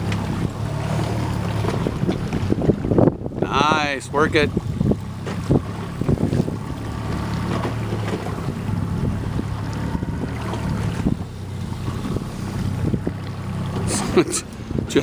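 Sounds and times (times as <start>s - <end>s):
boat motor running: 0.0s - 15.0s
wind buffeting the microphone: 0.0s - 15.0s.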